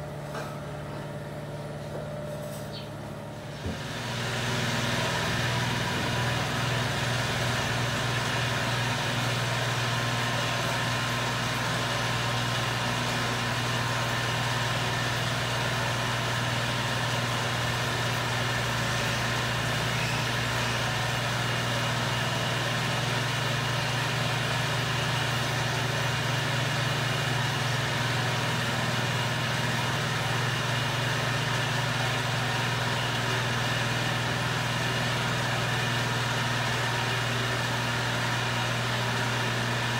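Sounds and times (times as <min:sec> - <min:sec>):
heat gun fan motor humming: 0:02.9 - 0:39.9.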